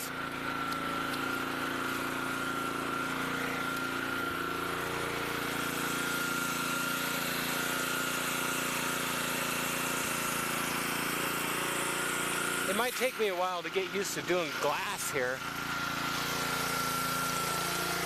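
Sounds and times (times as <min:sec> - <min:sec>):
pressure washer running: 0:00.0 - 0:18.0.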